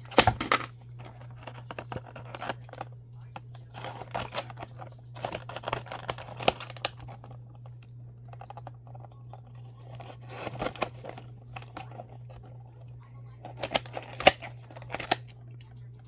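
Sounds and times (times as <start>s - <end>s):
packaging crinkling and clicking: 0.0s - 16.0s
steady low hum: 0.0s - 16.0s.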